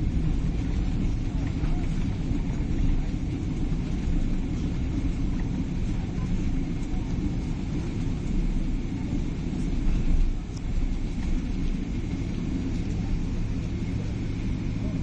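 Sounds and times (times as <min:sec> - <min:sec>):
airplane cabin engine and airflow rumble: 0:00.0 - 0:15.0.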